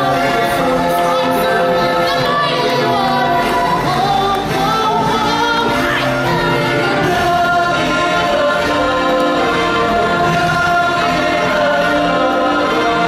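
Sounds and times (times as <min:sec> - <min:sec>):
cast singing together: 0:00.0 - 0:13.0
musical accompaniment: 0:00.0 - 0:13.0.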